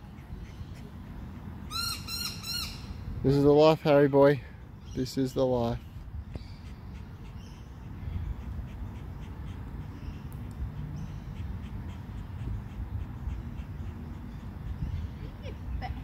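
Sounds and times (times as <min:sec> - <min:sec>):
birds calling harshly: 0:00.0 - 0:16.0.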